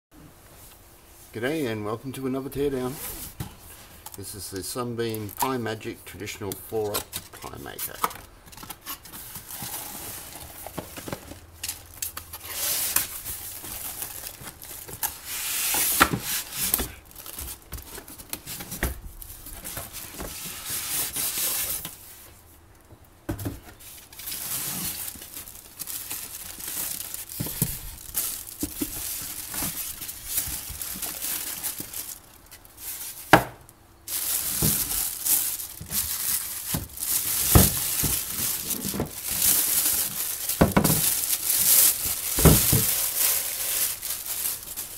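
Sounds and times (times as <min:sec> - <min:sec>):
plastic and cardboard crinkling: 0:02.6 - 0:33.4, 0:34.1 - 0:44.9.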